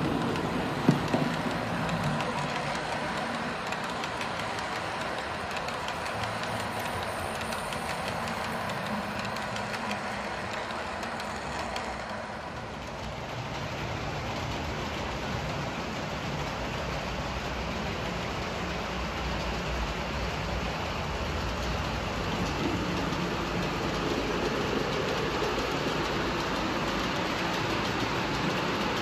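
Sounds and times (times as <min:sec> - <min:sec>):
model train wheels running: 0:00.0 - 0:29.0
wheels clicking over rail joints: 0:00.0 - 0:29.0.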